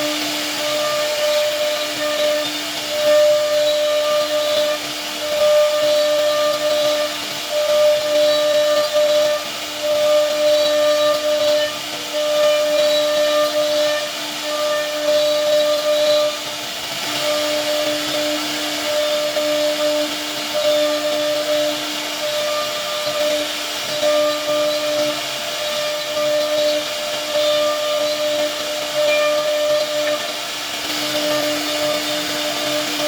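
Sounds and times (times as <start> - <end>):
router spindle whining cutting wood: 0.0 - 33.0.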